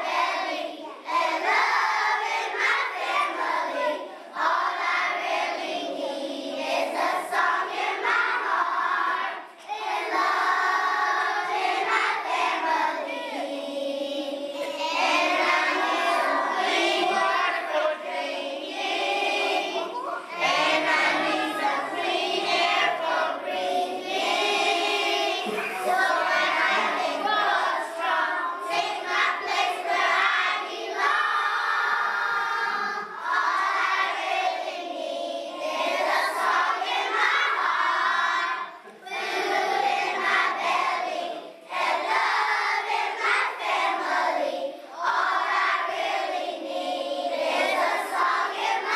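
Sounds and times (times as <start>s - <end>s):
children singing in unison: 0.0s - 48.9s.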